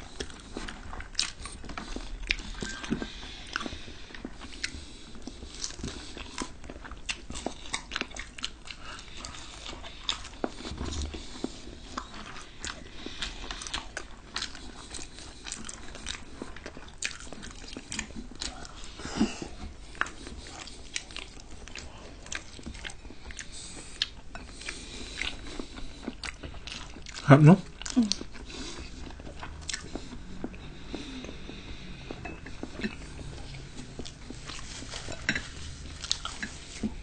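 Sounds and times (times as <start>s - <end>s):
chewing and mouth sounds: 0.0s - 37.0s.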